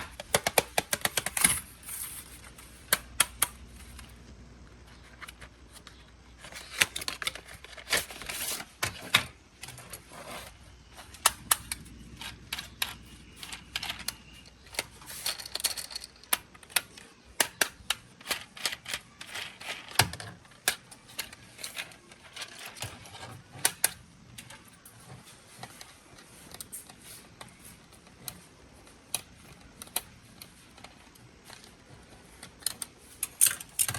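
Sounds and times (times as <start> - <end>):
plastic toy car parts clicking: 0.0 - 4.1, 5.0 - 33.9.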